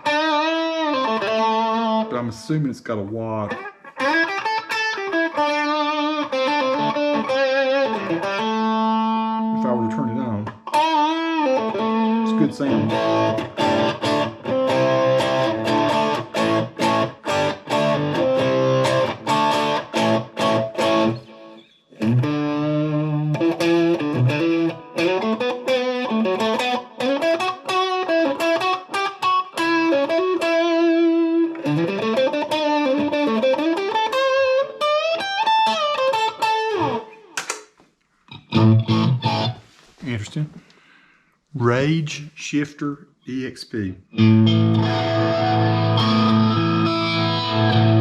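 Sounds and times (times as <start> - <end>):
electric guitar playing: 0.0 - 2.5, 3.1 - 37.5, 38.3 - 39.8, 44.1 - 48.0.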